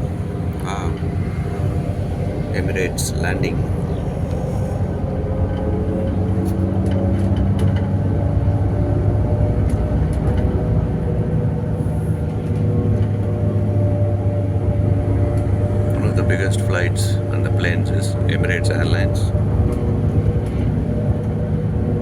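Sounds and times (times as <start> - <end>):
bus engine drone: 0.0 - 22.0
road noise: 0.0 - 22.0.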